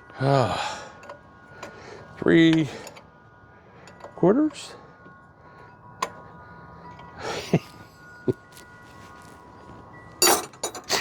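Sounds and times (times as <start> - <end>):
faint steady ringing tone: 0.0 - 11.0.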